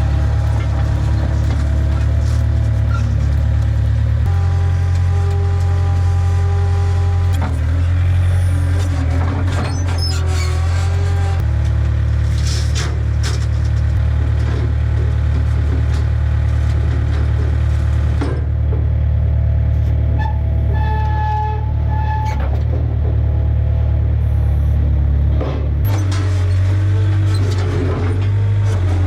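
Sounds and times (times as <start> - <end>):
heavy engine droning: 0.0 - 29.0.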